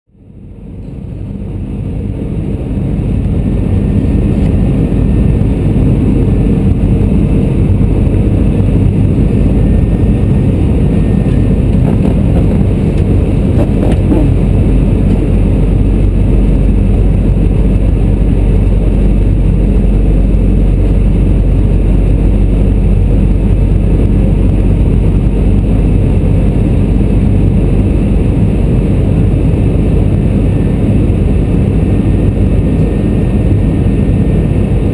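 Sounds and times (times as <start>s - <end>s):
aircraft cabin engine rumble: 0.1s - 34.9s.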